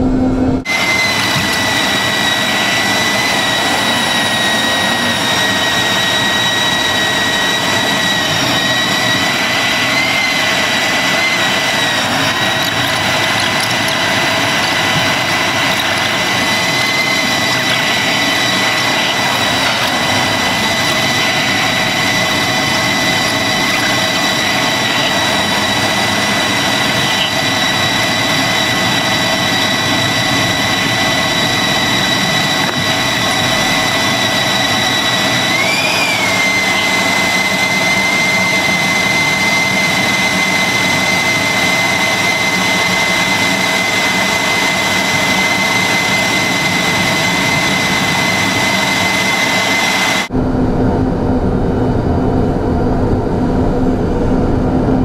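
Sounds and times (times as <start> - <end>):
high engine whine: 0.0 - 55.0
jet engines roaring: 0.0 - 55.0.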